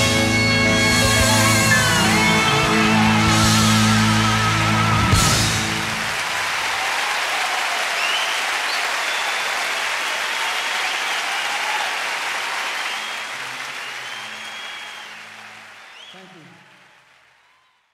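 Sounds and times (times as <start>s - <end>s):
crowd applauding: 0.0s - 17.9s.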